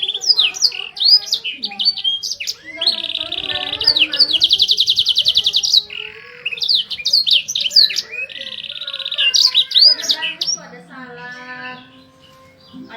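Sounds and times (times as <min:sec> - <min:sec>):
canary singing: 0:00.0 - 0:12.9.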